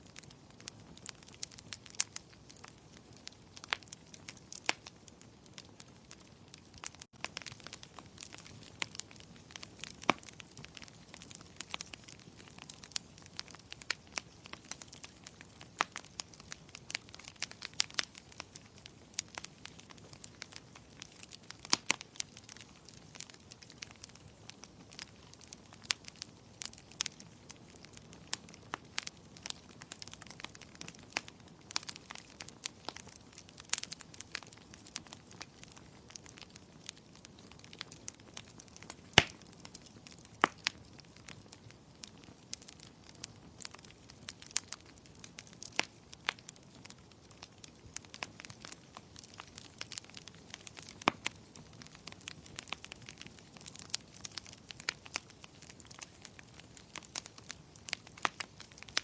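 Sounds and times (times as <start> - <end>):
fire crackling: 0.0 - 59.0.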